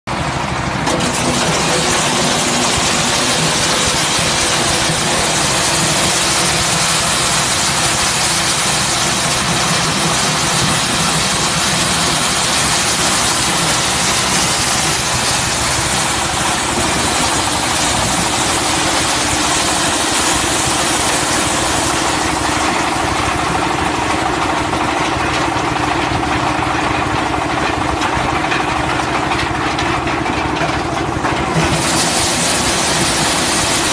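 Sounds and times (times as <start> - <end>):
corn sheller rattling: 0.1 - 33.9
tractor engine running: 0.1 - 33.9.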